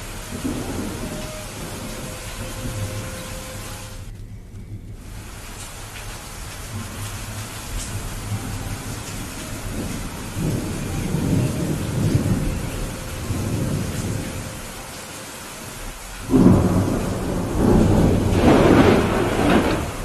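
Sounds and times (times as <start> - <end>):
rolling thunder rumble: 0.0 - 20.0
steady rain: 0.0 - 20.0
thunder clap: 0.0 - 20.0.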